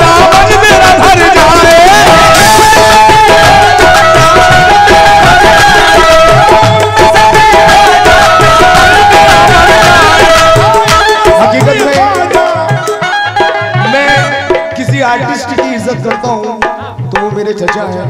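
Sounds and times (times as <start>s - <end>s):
harmonium melody: 0.0s - 18.0s
quick hand-drum rhythm: 0.0s - 18.0s.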